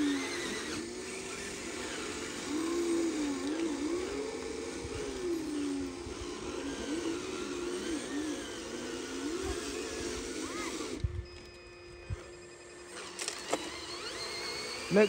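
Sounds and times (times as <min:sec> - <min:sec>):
model truck motor whining: 0:00.0 - 0:15.0.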